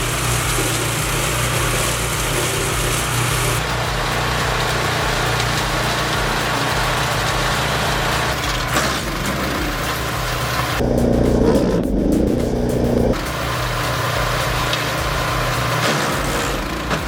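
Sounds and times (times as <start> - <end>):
deep engine hum: 0.0 - 17.0
wood chipper running: 0.0 - 17.0.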